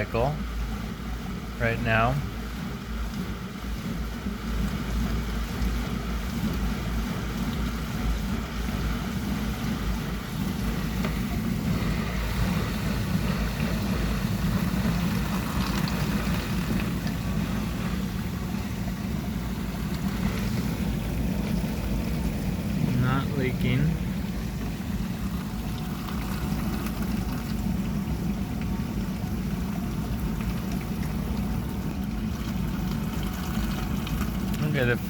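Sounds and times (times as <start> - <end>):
dishwasher pump humming: 0.0 - 35.0
water rushing and sloshing: 1.8 - 35.0.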